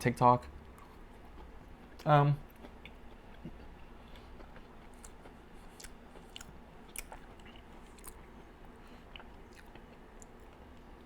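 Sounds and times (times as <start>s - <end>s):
faint chewing: 0.4s - 11.0s.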